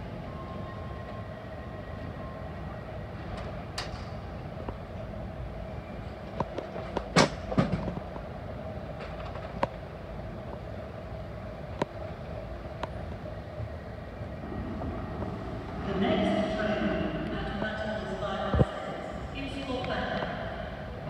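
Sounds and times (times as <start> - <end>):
train humming at platform: 0.0 - 21.0.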